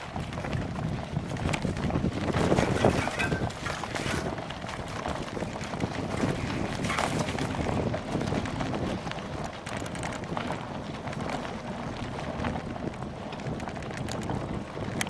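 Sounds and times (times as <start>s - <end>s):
bicycle rattles and knocks: 0.0s - 15.0s
wind buffeting microphone: 0.0s - 15.0s.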